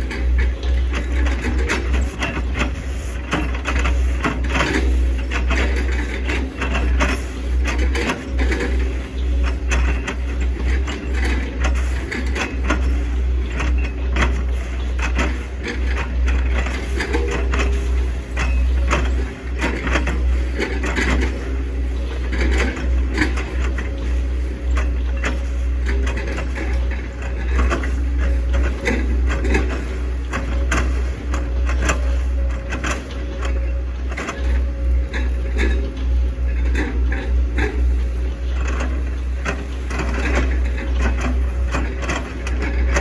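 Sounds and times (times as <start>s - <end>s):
excavator diesel engine rumbling: 0.0s - 43.0s.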